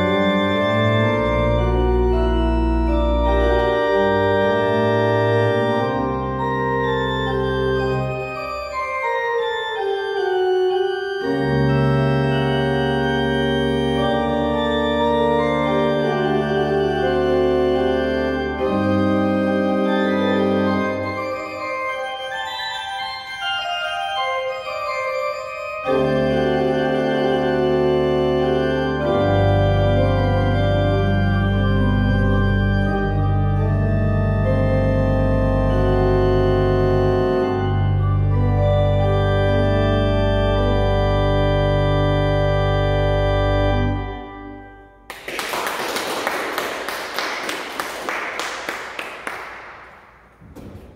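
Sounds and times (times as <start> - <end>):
deep organ pedal bass: 0.0 - 25.0, 25.8 - 45.0
pipe organ chords: 0.0 - 45.2.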